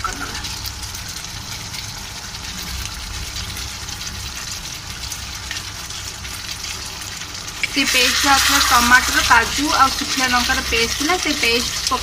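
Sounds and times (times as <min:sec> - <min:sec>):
curry sizzling and simmering: 0:00.0 - 0:12.0.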